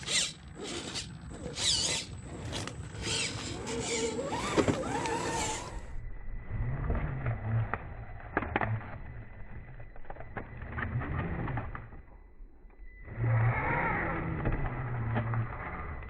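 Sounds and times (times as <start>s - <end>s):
electric motor whining: 0.0s - 12.2s, 13.0s - 16.0s.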